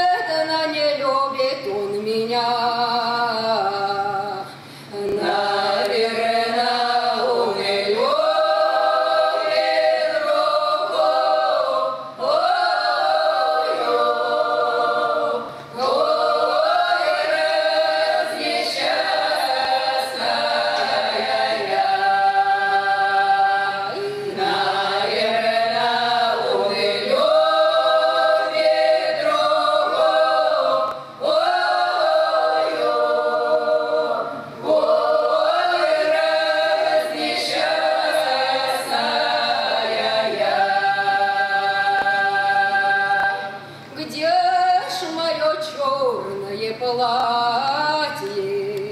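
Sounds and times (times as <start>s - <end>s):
women singing a cappella: 0.0s - 48.9s.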